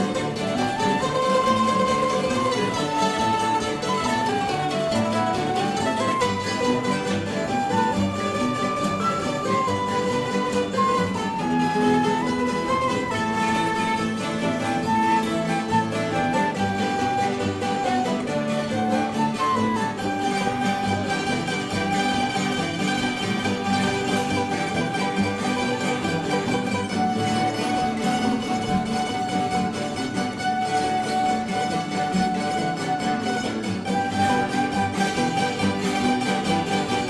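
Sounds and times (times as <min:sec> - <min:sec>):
string band playing instrumental: 0:00.0 - 0:37.0.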